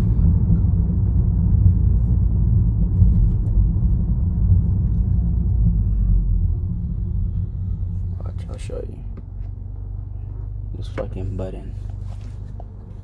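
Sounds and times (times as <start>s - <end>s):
car exhaust drone: 0.0s - 13.0s.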